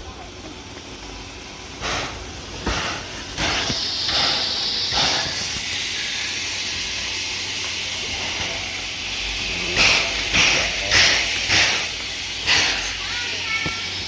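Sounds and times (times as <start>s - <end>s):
steam locomotive hissing: 0.0s - 14.0s
steam puffs: 0.4s - 14.0s.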